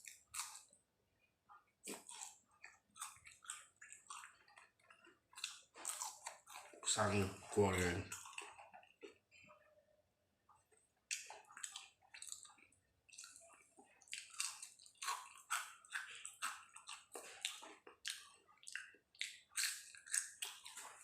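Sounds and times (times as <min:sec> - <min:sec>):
close-miked chewing: 0:00.0 - 0:00.8, 0:01.6 - 0:09.8, 0:10.4 - 0:21.0.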